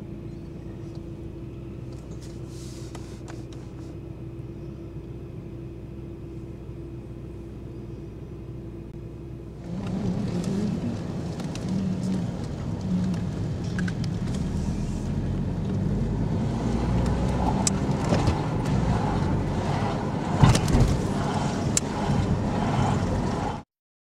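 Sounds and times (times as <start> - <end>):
car engine and tyre rumble: 0.0 - 23.7.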